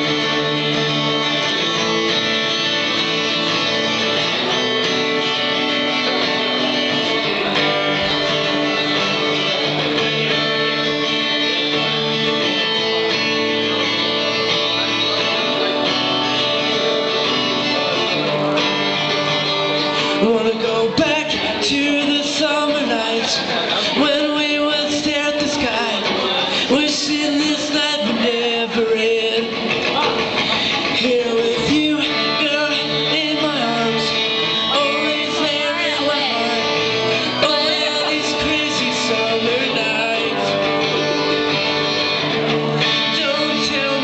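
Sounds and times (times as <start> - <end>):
acoustic guitar chords: 0.0 - 44.0.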